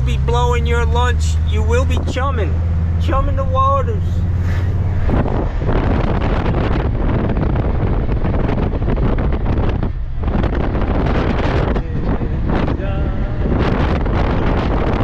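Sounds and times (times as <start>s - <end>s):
van road and engine noise: 0.0s - 15.0s
wind buffeting microphone: 0.0s - 15.0s.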